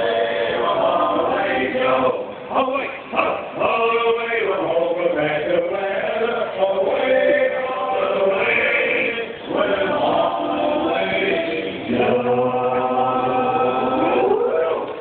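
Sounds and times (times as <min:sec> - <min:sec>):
male group singing in harmony: 0:00.0 - 0:15.0.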